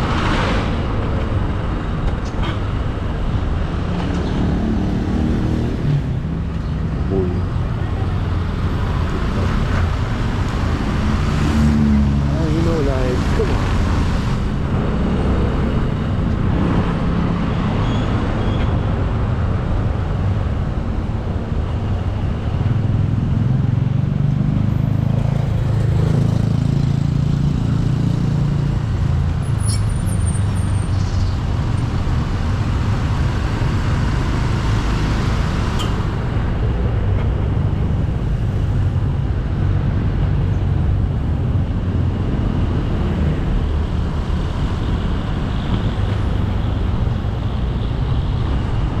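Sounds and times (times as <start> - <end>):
road noise: 0.0 - 49.0.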